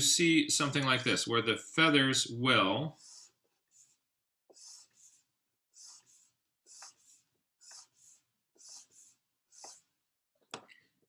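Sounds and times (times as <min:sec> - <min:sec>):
stylus scratching drawing surface: 0:00.9 - 0:10.0.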